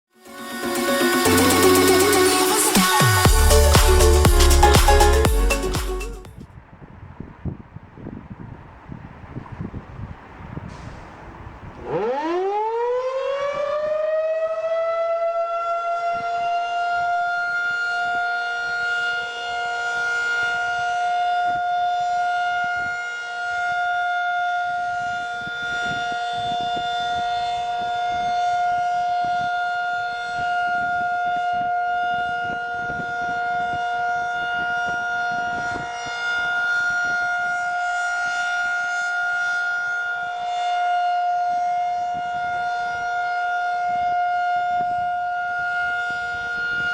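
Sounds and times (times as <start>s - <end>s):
warning siren wailing: 0.2s - 5.3s, 11.8s - 46.9s.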